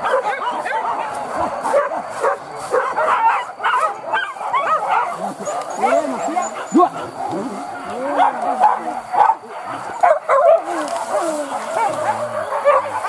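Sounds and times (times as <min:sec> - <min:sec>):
dogs yelping and baying: 0:00.0 - 0:13.0.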